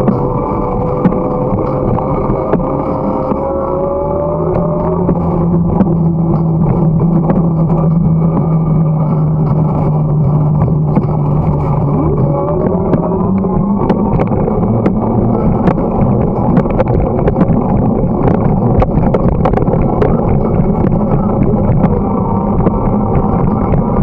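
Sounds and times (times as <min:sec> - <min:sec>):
steady low hum: 0:00.0 - 0:24.0
tyres on asphalt: 0:00.0 - 0:24.0
wind rushing over microphone: 0:00.0 - 0:24.0.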